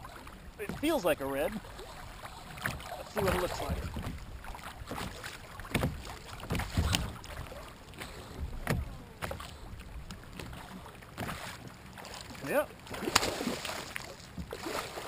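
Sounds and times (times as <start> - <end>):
waves lapping against kayak hull: 0.0 - 15.0.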